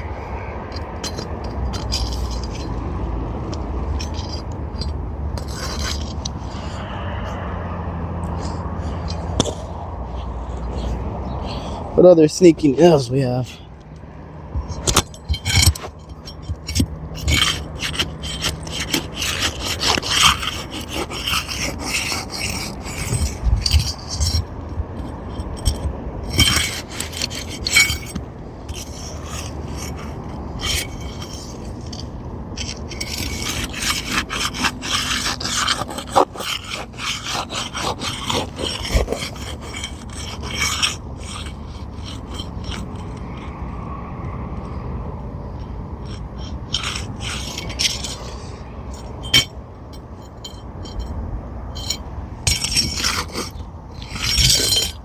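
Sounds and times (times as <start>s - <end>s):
shingles scraping: 0.0s - 7.0s, 8.3s - 13.8s, 14.5s - 43.8s, 45.5s - 55.0s.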